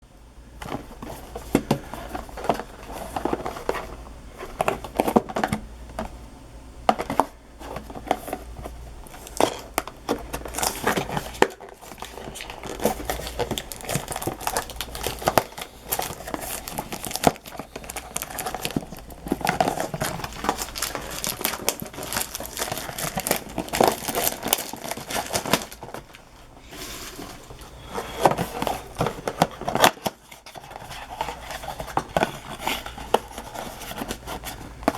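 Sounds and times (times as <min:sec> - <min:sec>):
plastic and foil wrappers crinkling: 0:00.6 - 0:05.6, 0:07.1 - 0:34.9.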